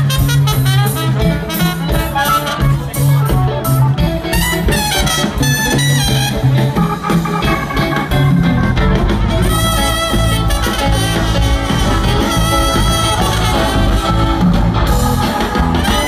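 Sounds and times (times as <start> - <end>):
trumpet: 0.0 - 8.2, 9.2 - 16.0
live band playing: 0.0 - 16.0.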